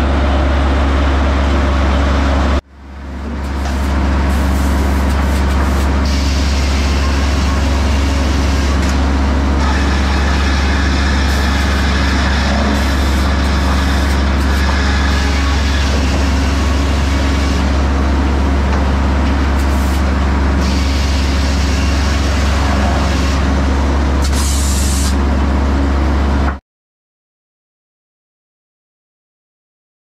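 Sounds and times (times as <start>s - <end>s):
sawmill machinery droning: 0.0s - 26.6s.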